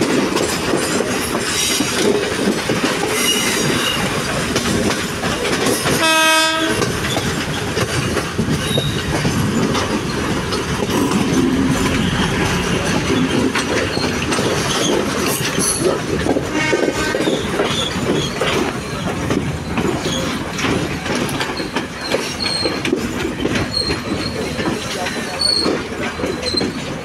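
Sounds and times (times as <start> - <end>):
clattering over rail joints: 0.0 - 27.0
train wheel rumble: 0.0 - 27.0.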